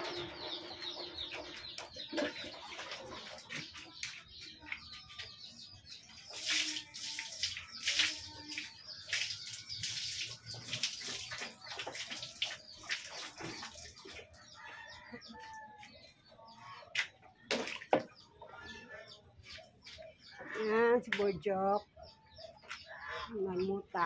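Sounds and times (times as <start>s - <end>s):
chirping and clucking bird calls: 0.0s - 24.0s.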